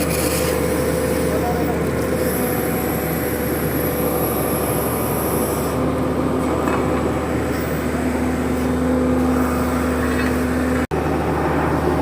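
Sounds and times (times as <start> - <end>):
drilling rig mechanical drone: 0.0 - 12.0.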